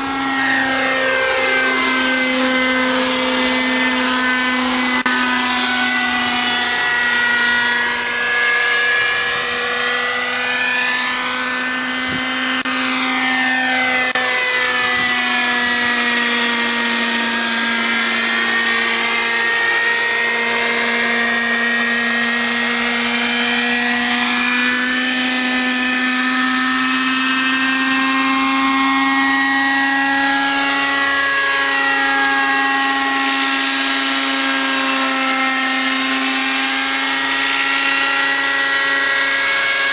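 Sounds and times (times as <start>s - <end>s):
model helicopter rotor whine: 0.0s - 39.9s.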